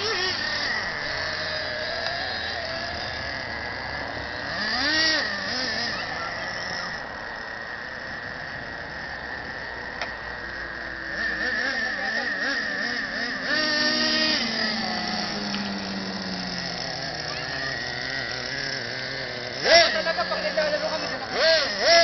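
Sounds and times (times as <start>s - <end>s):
toy truck motor whining: 0.0s - 22.0s.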